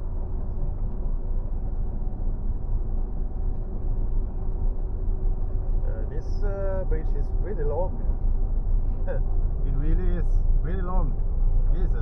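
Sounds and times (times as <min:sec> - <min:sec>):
road engine and wind noise in car: 0:00.0 - 0:12.0.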